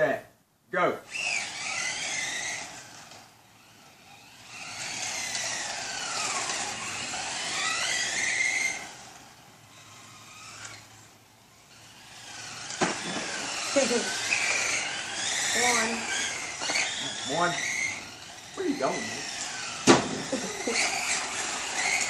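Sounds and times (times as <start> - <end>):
rc car motors whining: 1.0 - 22.0.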